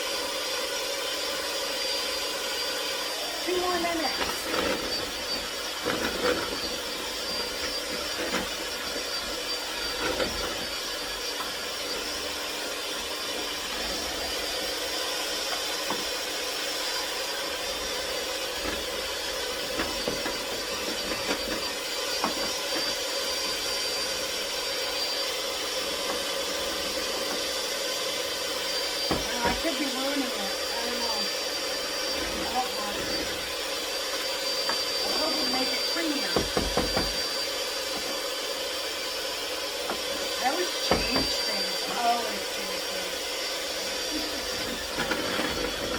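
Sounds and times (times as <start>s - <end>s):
electric mixer running: 0.0s - 45.9s.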